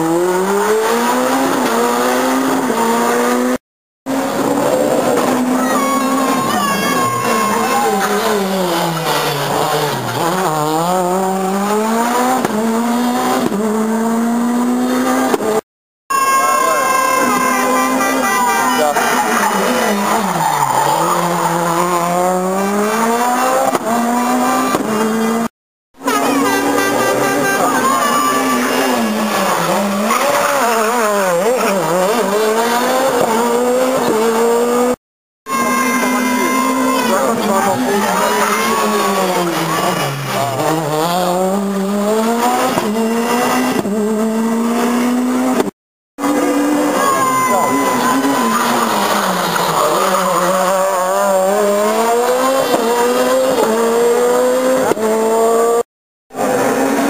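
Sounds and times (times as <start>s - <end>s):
rally car engine accelerating: 0.0s - 15.6s, 16.6s - 57.0s.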